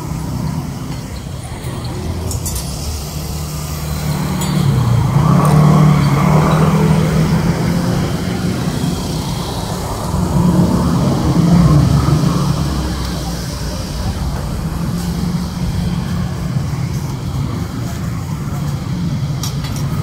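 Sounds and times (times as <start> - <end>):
scooter engine humming: 0.0 - 20.0.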